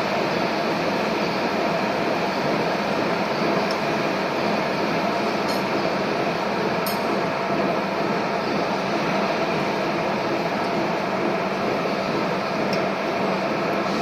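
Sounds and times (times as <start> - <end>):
machine running with faint hum: 0.0 - 14.0.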